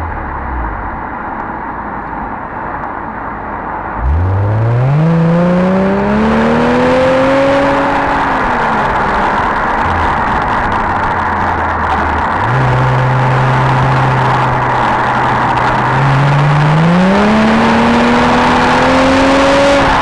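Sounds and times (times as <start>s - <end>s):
car exhaust revving: 0.0s - 1.6s, 4.0s - 20.0s
wind and road noise: 0.0s - 20.0s.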